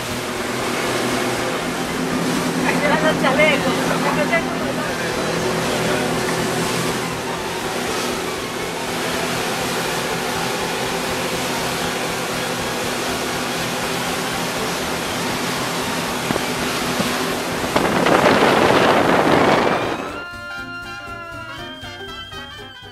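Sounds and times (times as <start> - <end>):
water and wind rushing: 0.0 - 20.2
speedboat engines running: 0.0 - 22.9.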